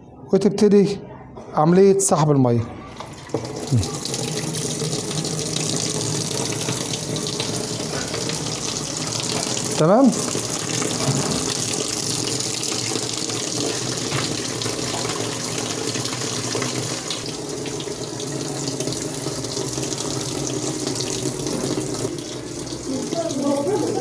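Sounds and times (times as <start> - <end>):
water running into washing machine: 2.8 - 24.0.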